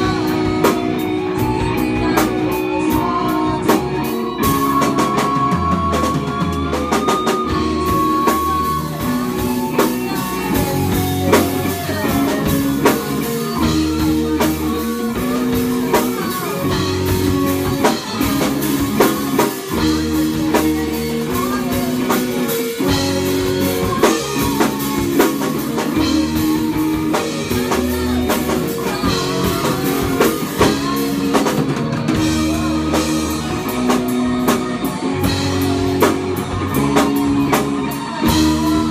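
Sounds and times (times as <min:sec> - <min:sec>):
drum kit beat: 0:00.0 - 0:38.9
electric guitars: 0:00.0 - 0:38.9.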